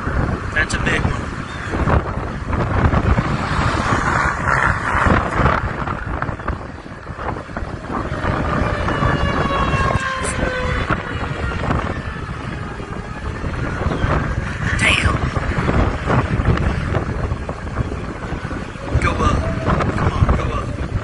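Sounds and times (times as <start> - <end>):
wind buffeting microphone: 0.0 - 21.0
tornado warning siren wailing: 1.1 - 21.0.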